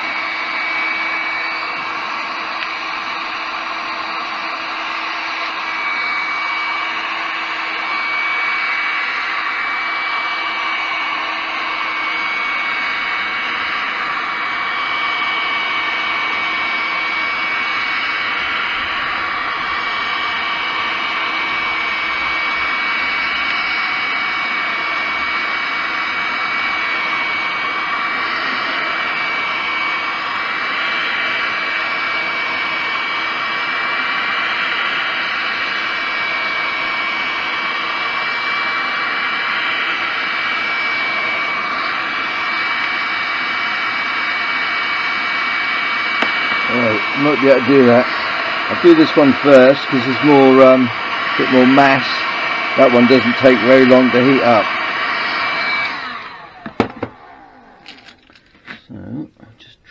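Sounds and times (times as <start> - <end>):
heat gun blowing with high whine: 0.0 - 59.9.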